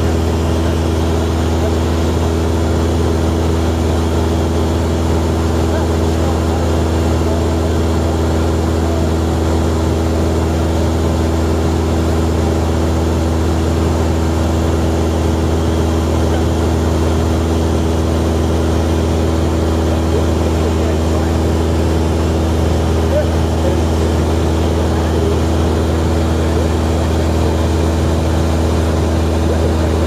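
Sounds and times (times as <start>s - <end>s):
propeller airplane engine drone: 0.0s - 30.0s.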